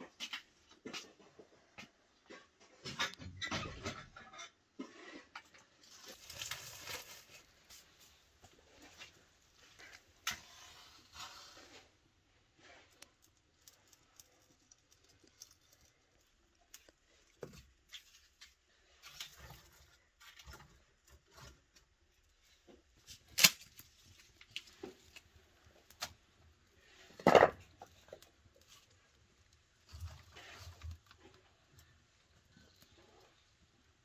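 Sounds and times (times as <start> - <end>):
kindling crackling: 5.7 - 34.0.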